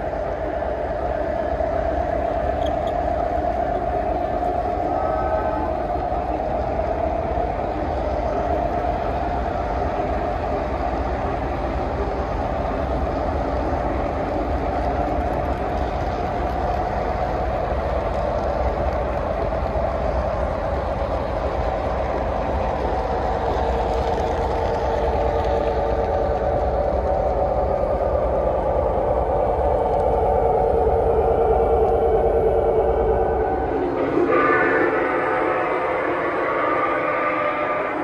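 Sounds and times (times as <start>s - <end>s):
model train cars rolling on track: 0.0s - 38.0s.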